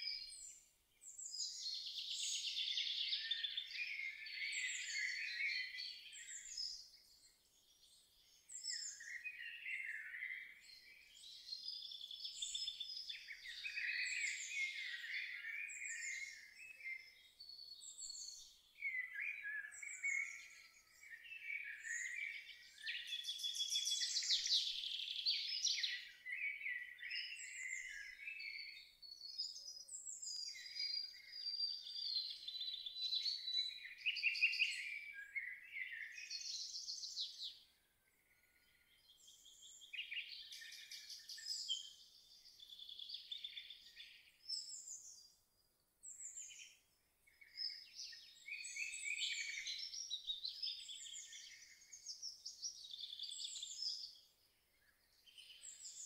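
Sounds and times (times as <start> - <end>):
songbirds chirping and warbling: 0.0 - 56.0.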